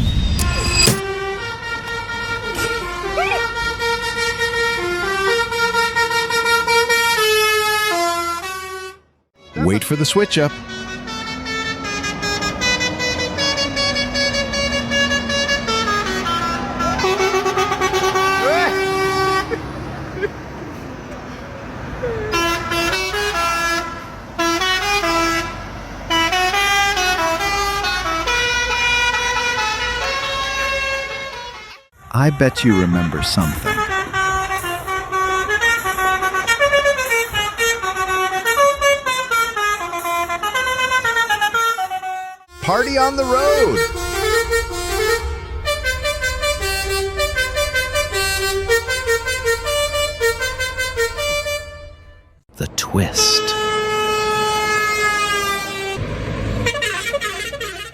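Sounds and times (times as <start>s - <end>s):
truck air horn: 0.0s - 20.6s, 22.0s - 52.4s, 53.1s - 57.9s.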